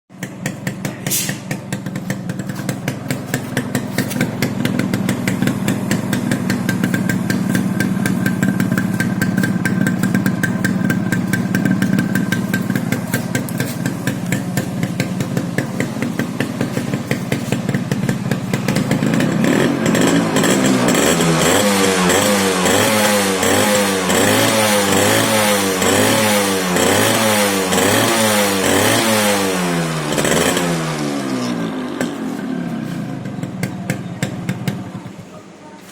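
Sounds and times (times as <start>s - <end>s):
two-stroke motorcycle engine revving: 0.2s - 35.3s.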